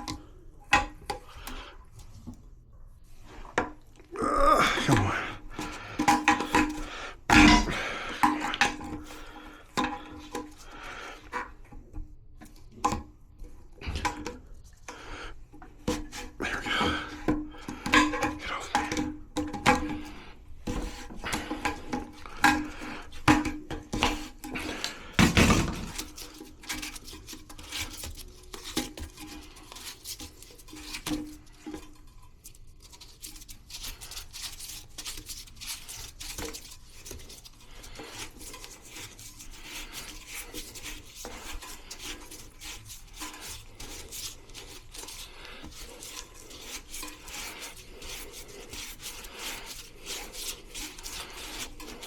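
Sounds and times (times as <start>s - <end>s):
scraping and rubbing: 3.0s - 11.5s, 14.5s - 52.0s.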